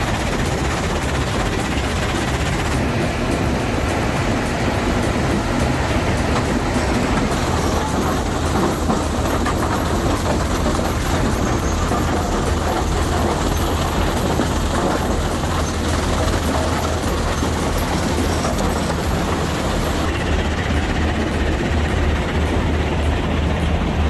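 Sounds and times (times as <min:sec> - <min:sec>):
machinery deep hum: 0:00.0 - 0:24.0.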